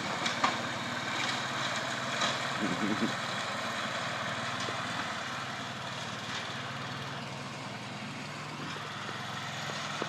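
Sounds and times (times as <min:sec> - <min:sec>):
mower engine running: 0:00.0 - 0:10.0.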